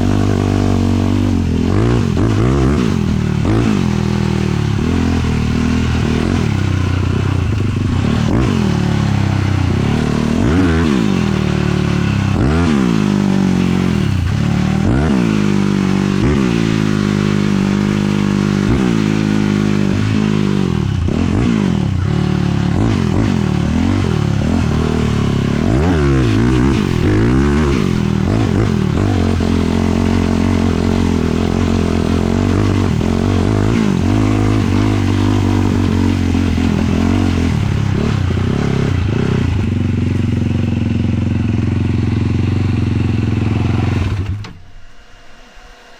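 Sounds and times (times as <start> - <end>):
quad engine revving: 0.0 - 44.6.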